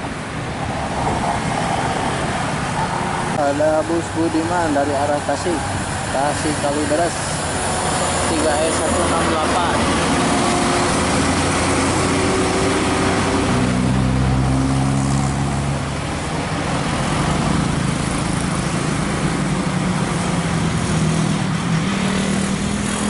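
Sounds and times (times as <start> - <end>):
bus engine running under load: 0.0 - 23.0
motorcycle engines: 0.0 - 23.0.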